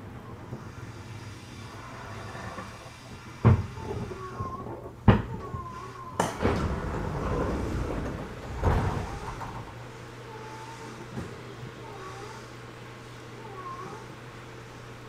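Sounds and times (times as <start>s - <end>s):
train interior hum: 0.0s - 12.4s.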